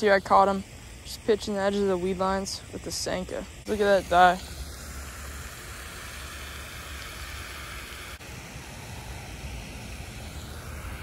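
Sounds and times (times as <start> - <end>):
fountain spray splashing: 0.3 - 11.0.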